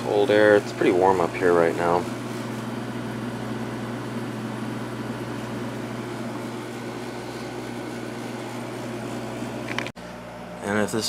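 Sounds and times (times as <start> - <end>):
air conditioner compressor hum: 0.0 - 11.0
fan air rushing: 0.0 - 11.0.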